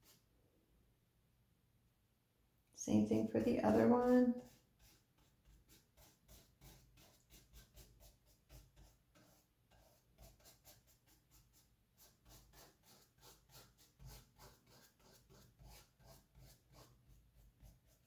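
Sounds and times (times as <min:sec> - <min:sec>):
paintbrush scratching on canvas: 0:00.0 - 0:00.2, 0:02.9 - 0:18.0.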